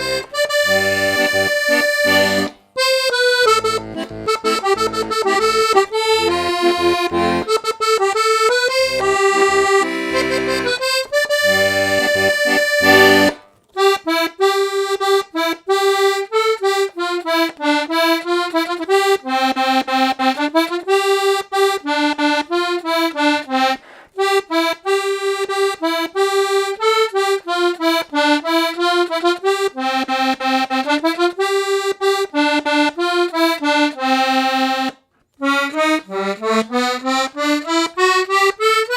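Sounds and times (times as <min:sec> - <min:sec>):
button accordion playing tunes: 0:00.0 - 0:38.9.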